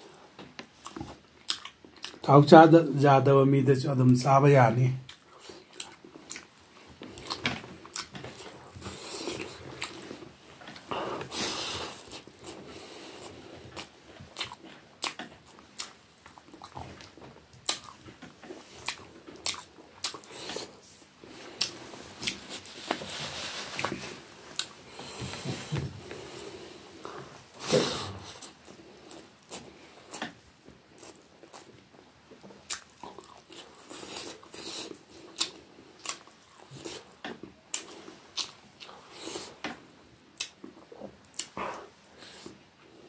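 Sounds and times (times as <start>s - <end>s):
close chewing: 0.7s - 2.3s, 5.0s - 43.0s.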